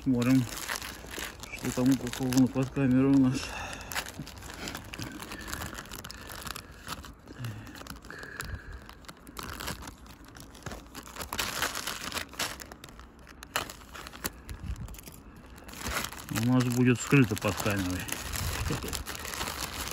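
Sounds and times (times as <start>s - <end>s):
plastic bag crinkling: 0.0s - 19.9s.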